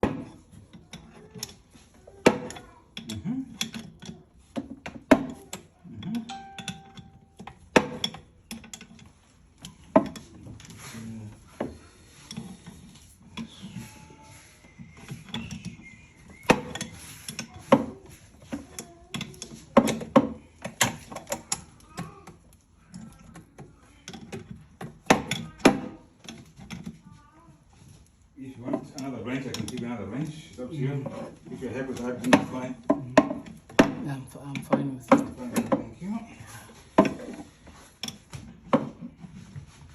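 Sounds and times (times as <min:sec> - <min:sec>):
pipe parts clicking and knocking: 0:00.0 - 0:36.0, 0:36.7 - 0:39.9.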